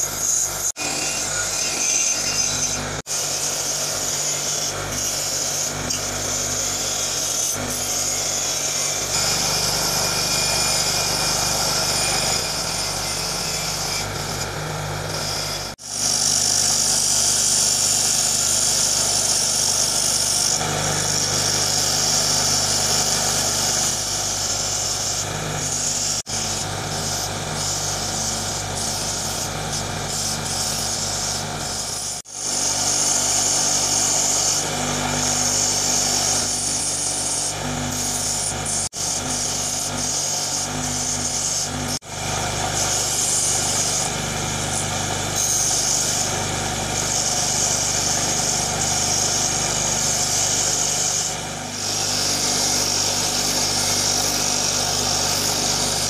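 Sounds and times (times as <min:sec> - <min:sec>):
bench grinder motor hum: 0:00.0 - 0:56.0.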